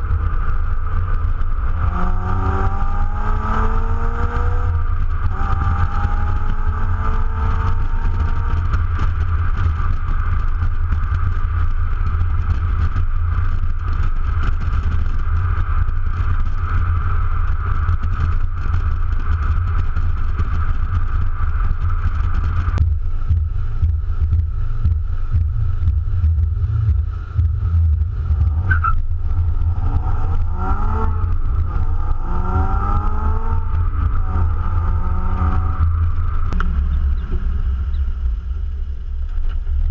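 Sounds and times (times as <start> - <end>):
car exhaust while driving: 0.0 - 39.9
wind and road noise rumble: 0.0 - 39.9.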